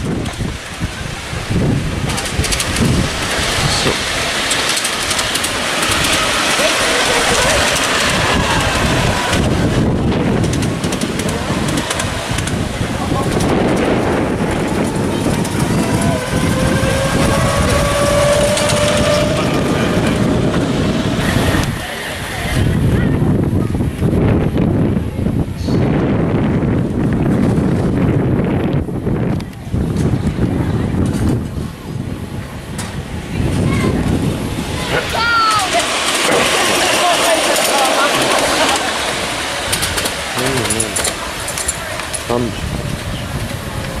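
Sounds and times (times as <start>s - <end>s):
train wheels rumbling on rails: 0.0s - 44.0s
wind buffeting microphone: 0.0s - 44.0s.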